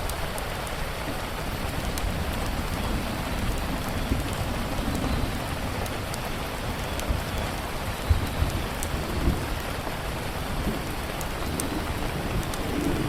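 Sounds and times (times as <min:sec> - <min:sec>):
steady rain: 0:00.0 - 0:13.0
wood fire crackling: 0:00.0 - 0:13.0.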